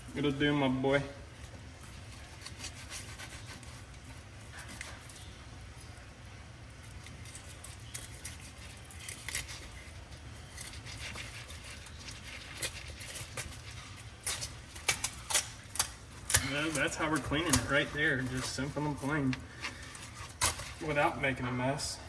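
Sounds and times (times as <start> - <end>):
knife scraping fish: 1.8 - 5.4, 6.8 - 21.0.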